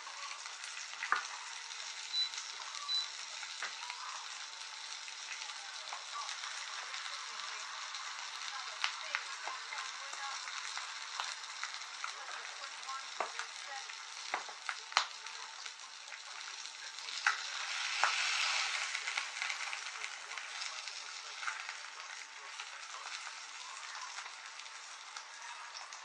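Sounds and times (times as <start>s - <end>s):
fish sizzling in a frying pan: 0.0s - 26.0s.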